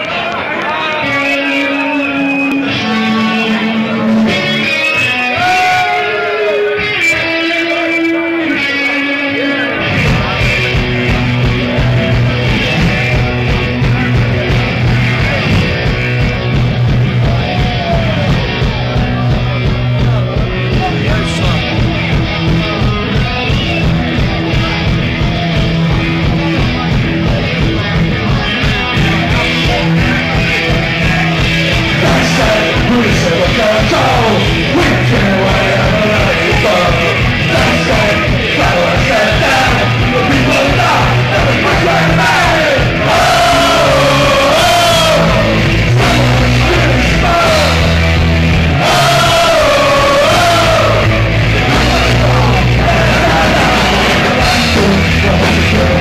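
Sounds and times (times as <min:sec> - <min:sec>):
punk rock band playing: 0:00.0 - 0:56.0
shouted lead vocals: 0:00.0 - 0:56.0.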